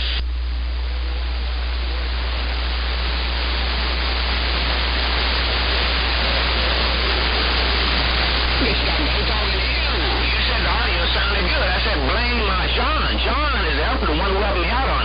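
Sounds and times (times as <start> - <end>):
constant low hum: 0.0 - 15.0
radio static hiss: 0.0 - 15.0.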